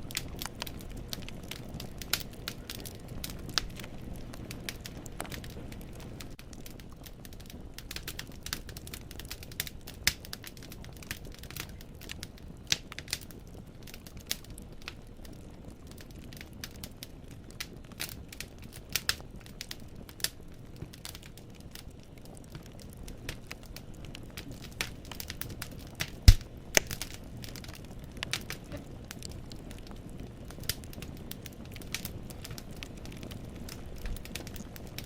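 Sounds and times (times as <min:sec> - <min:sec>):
firewood crackling and popping: 0:00.0 - 0:35.0
low rumble of flames: 0:00.0 - 0:35.0.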